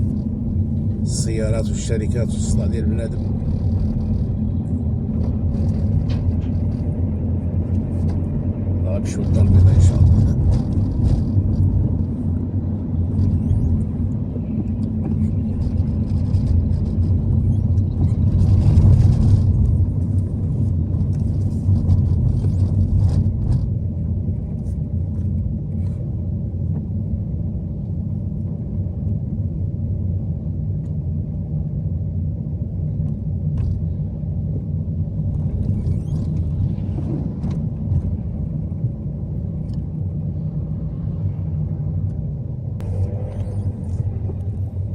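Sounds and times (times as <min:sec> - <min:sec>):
car engine and road noise: 0:00.0 - 0:44.9.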